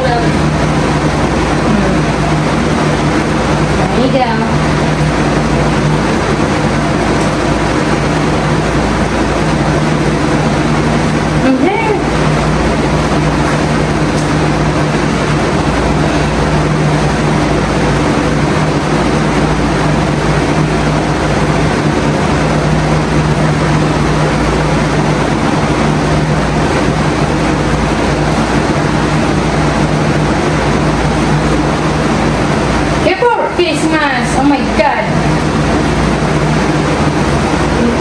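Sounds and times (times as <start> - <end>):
low machine hum with hiss: 0.0 - 38.0.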